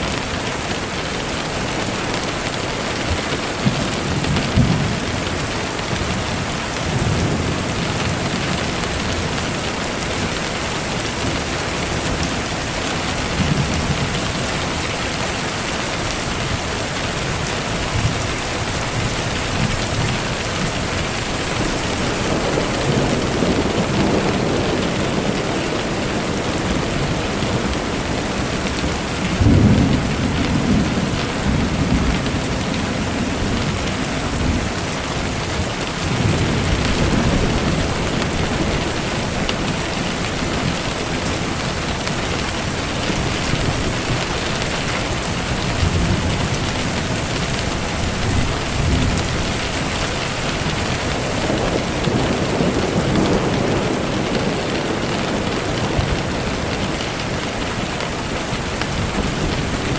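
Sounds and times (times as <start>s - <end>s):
heavy rain: 0.0s - 59.9s
thunder rumbling: 0.0s - 59.9s.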